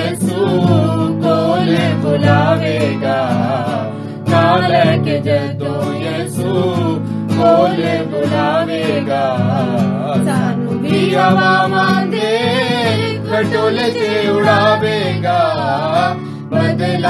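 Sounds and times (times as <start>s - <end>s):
acoustic guitar: 0.0s - 17.0s
instrumental backing: 0.0s - 17.0s
person singing: 0.0s - 17.0s.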